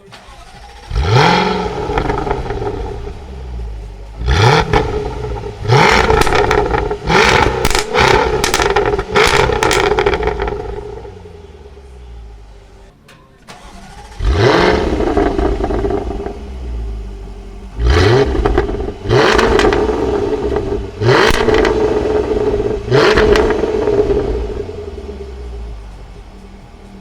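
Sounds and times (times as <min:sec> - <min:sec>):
car engine accelerating hard: 0:00.0 - 0:12.9, 0:13.5 - 0:27.0.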